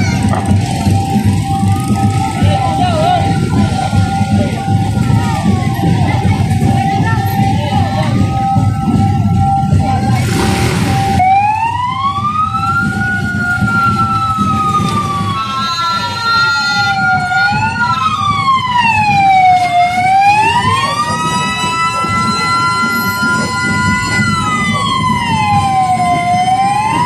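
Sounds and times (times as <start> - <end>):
fire truck siren wailing: 0.0 - 27.0
steady siren tone: 0.2 - 27.0.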